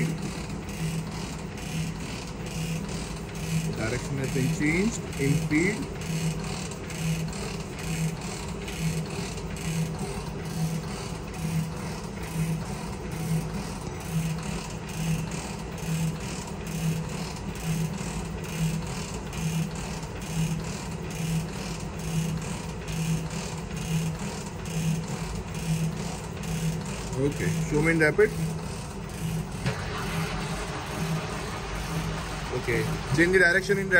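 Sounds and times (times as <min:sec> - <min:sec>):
machine humming with low pulse: 0:00.0 - 0:33.9.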